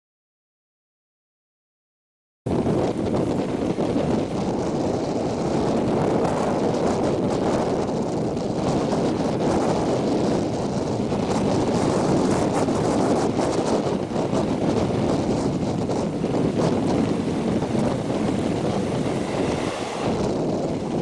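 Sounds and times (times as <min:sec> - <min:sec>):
moving train running noise: 0:02.5 - 0:21.0
wind on microphone: 0:02.5 - 0:21.0.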